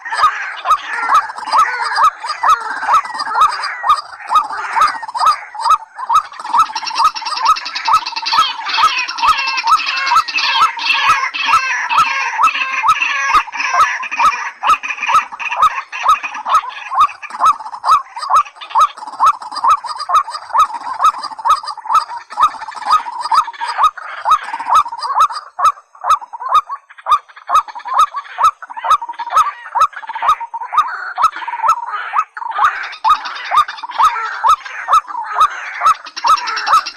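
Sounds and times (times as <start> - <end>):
rail bird calls: 0.0 - 36.9.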